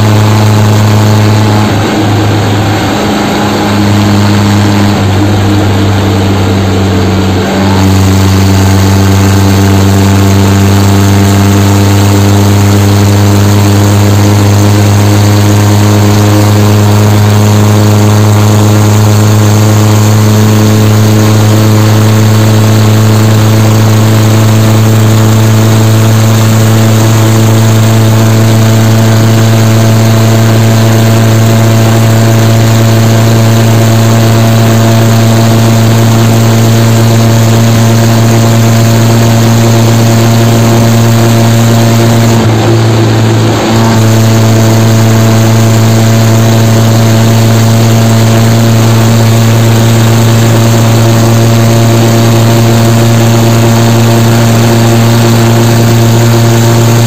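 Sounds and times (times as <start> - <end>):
diesel tractor engine humming: 0.0 - 57.0.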